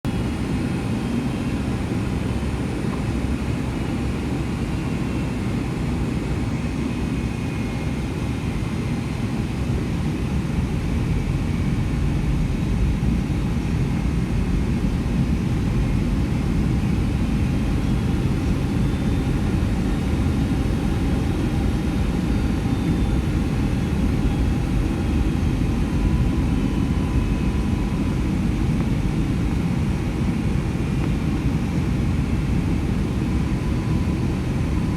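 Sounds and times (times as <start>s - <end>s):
airflow and engine noise in cabin: 0.1s - 34.9s
faint steady whines: 0.1s - 34.9s.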